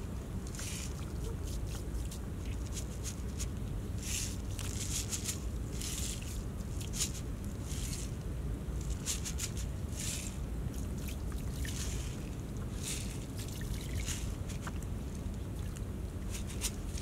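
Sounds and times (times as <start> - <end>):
rustles and crackles: 0.0 - 17.0
steady low rumble: 0.0 - 17.0.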